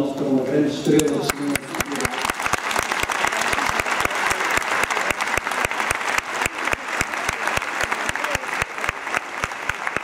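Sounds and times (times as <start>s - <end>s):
audience clapping: 0.9s - 10.0s
close sharp claps: 1.0s - 10.0s.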